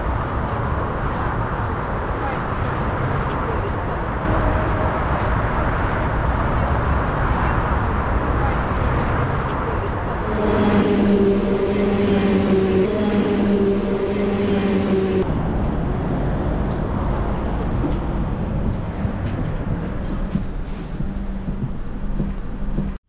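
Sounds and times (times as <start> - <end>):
electric train hum: 0.0 - 23.0
low rumble: 4.1 - 23.0.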